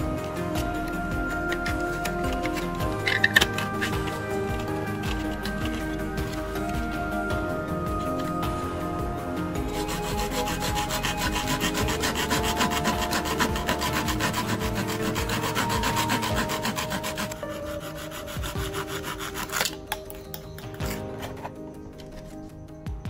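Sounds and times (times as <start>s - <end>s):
hand saw cutting plastic pipe: 0.0s - 7.0s, 9.6s - 21.5s.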